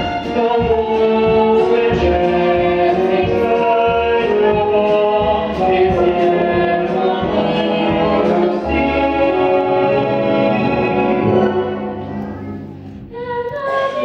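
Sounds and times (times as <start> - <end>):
pit orchestra playing: 0.0 - 13.1
live stage singing: 0.0 - 14.0.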